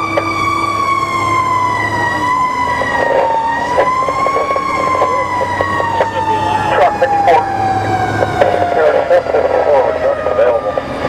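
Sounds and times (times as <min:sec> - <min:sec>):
engine running: 0:00.0 - 0:11.0
fire engine siren: 0:00.0 - 0:11.0.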